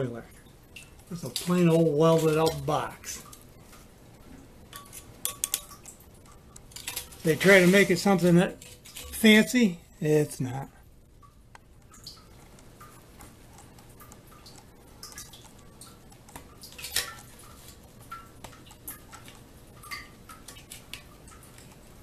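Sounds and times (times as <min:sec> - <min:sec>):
water dripping in metal box: 0:00.0 - 0:22.0.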